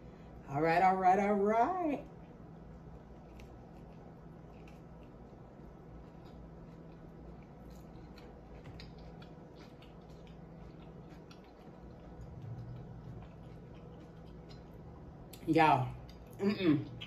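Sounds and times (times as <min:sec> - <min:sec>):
low room hum: 0:00.0 - 0:17.0
person chewing food: 0:02.1 - 0:15.4, 0:16.0 - 0:17.0.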